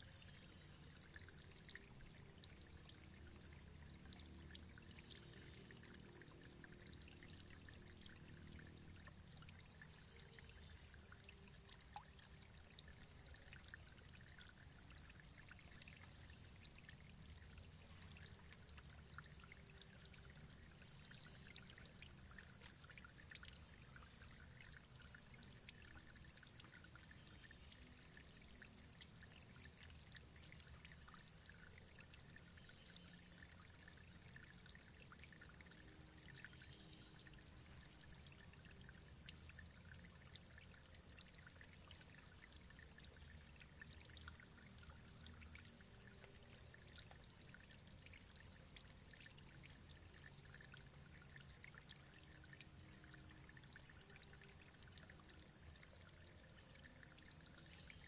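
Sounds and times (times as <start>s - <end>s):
faint trickling water: 0.0s - 58.0s.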